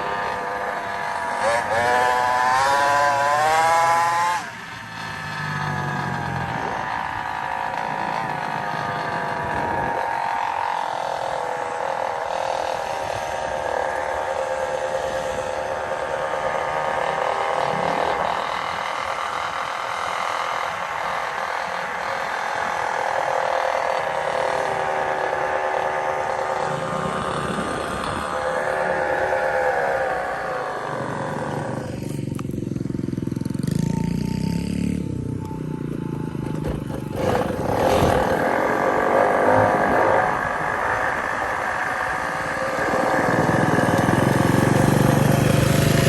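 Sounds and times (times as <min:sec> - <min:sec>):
small gas engine revving: 0:00.0 - 0:46.0.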